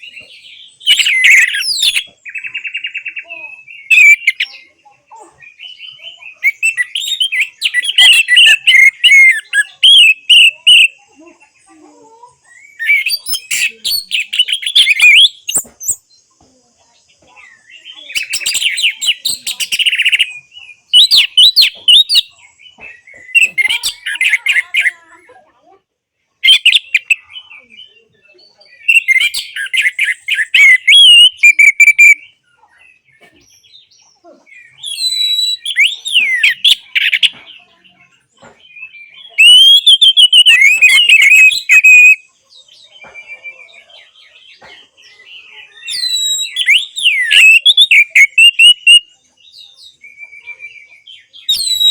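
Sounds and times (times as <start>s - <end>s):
thrush singing whistles: 0.0s - 4.7s, 5.6s - 11.1s, 12.5s - 16.1s, 17.6s - 24.9s, 26.4s - 32.4s, 34.5s - 37.4s, 38.8s - 43.9s, 45.4s - 51.9s.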